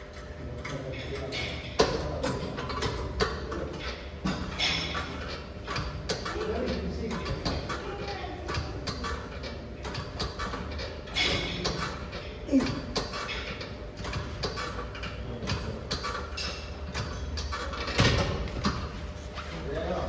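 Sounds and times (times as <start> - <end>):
gym equipment clanking: 0.6 - 19.0.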